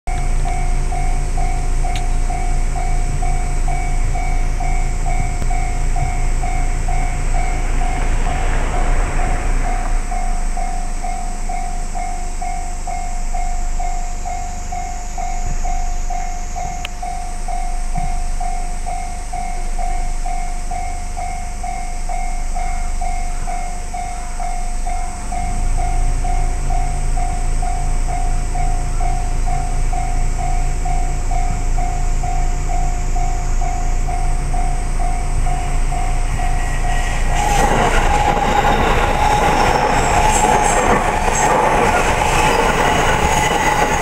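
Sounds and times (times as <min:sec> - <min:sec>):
low rumble: 0:00.1 - 0:21.5, 0:24.8 - 0:44.0.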